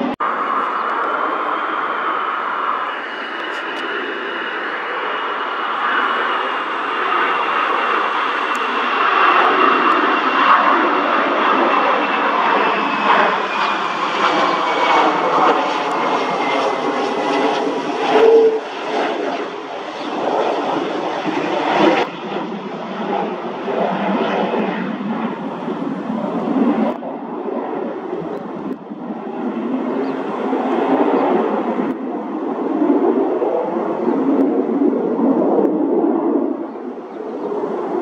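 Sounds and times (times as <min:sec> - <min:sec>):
high jet whine: 0:00.0 - 0:38.0
jet engine rush: 0:00.0 - 0:38.0.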